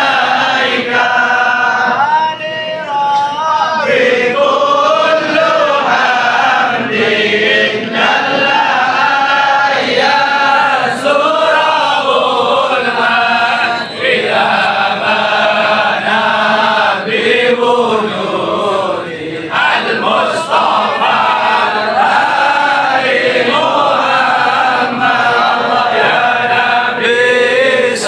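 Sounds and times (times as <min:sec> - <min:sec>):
crowd of men chanting: 0:00.0 - 0:28.0.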